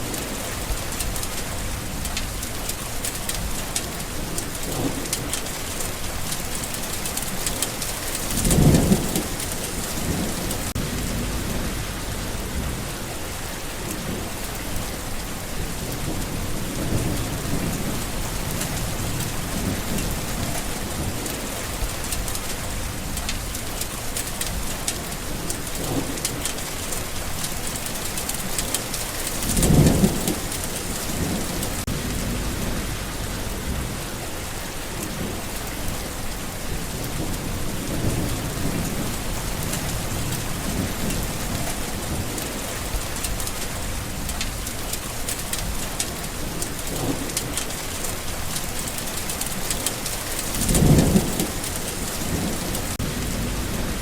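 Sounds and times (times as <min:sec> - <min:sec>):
low rumbles of thunder: 0:00.0 - 0:27.8, 0:28.5 - 0:54.0
steady rain on a surface: 0:00.0 - 0:54.0.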